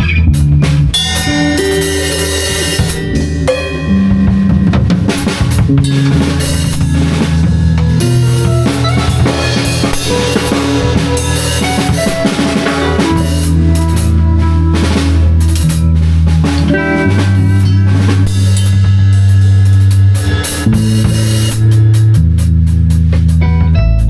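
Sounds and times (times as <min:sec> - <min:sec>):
drum kit groove: 0:00.0 - 0:24.0
low bass notes: 0:00.0 - 0:24.0.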